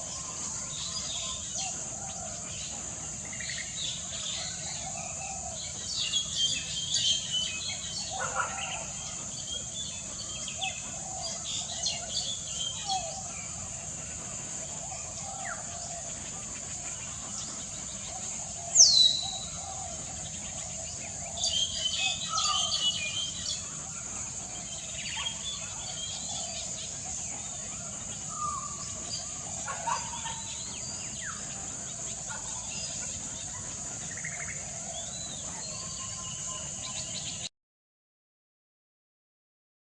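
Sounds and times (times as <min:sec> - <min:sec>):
steady high hiss: 0:00.0 - 0:37.5.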